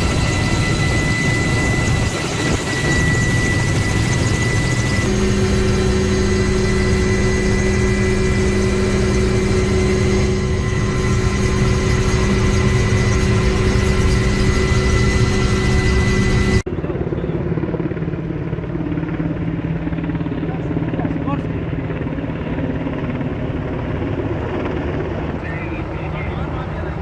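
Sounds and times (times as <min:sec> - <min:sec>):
helicopter turbine and rotor: 0:00.0 - 0:27.0.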